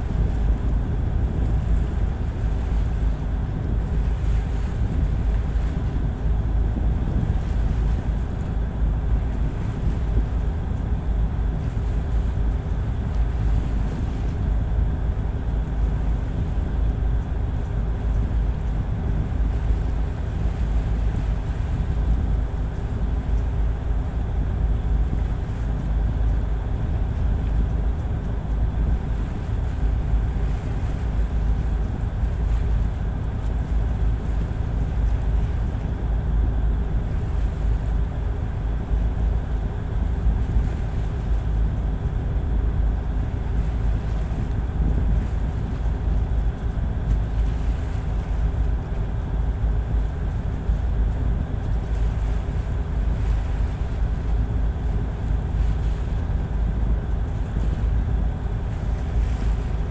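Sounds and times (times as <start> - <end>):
boat diesel engine drone: 0.0 - 59.9
wind and water noise: 0.0 - 59.9.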